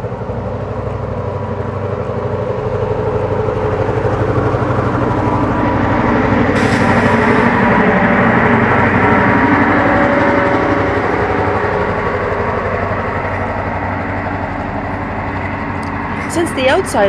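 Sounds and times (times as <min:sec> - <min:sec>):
diesel locomotive engine hum: 0:00.0 - 0:17.0
train wheels rolling on rails: 0:00.0 - 0:17.0.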